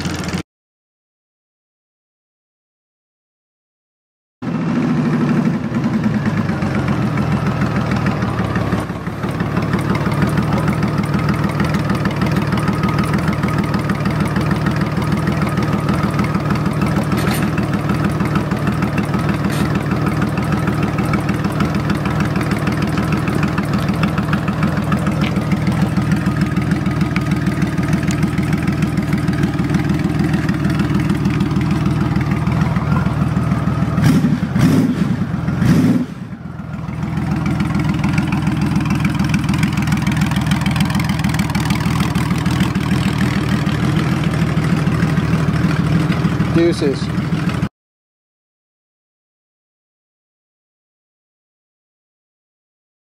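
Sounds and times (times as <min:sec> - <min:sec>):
motorcycle engine idling: 0:00.0 - 0:00.4, 0:04.4 - 0:47.7.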